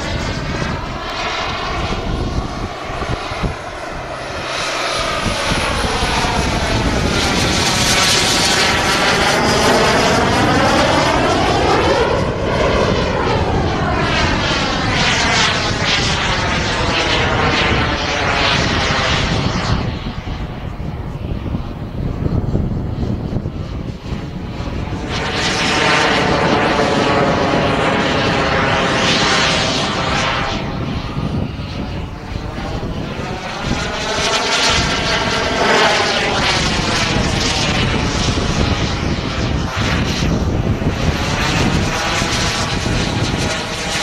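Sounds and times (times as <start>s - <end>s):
model jet flying past: 0.0s - 44.0s.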